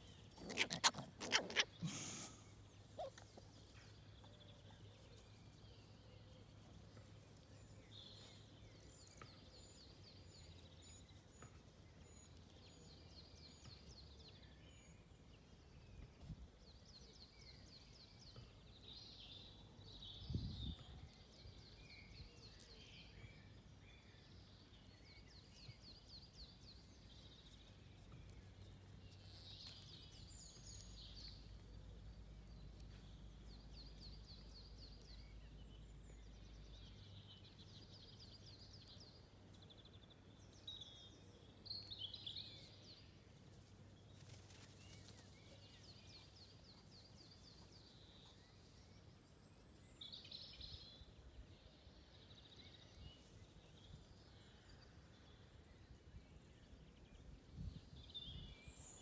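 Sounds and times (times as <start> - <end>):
small birds trilling and chirping: 0.0 - 59.0.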